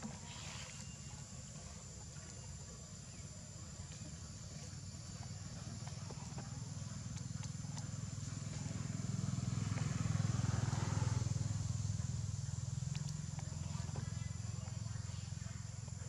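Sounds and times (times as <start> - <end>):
small engine rumbling: 0.0 - 16.0.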